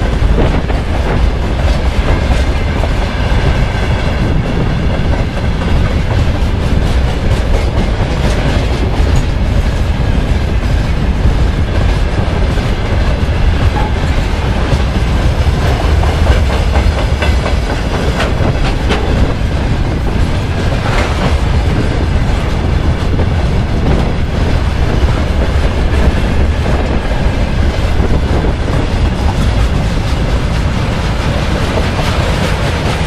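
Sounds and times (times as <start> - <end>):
freight train rumbling past: 0.0 - 33.0
wheels clacking over rail joints: 0.0 - 33.0.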